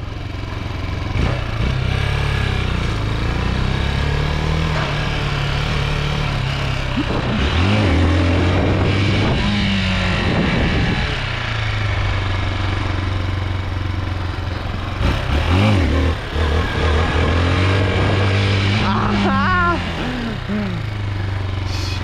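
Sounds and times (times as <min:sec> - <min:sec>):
dirt bike engine revving: 0:00.6 - 0:22.0.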